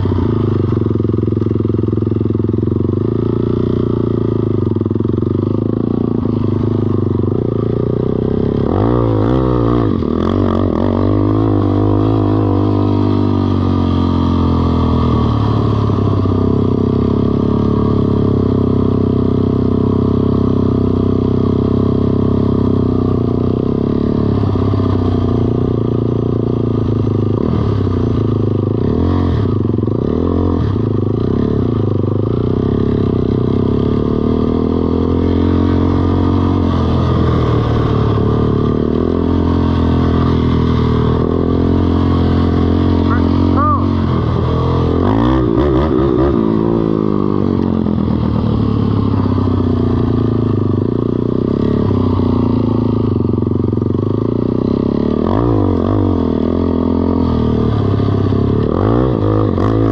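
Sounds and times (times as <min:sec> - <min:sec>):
small atv engine running: 0:00.0 - 0:59.9.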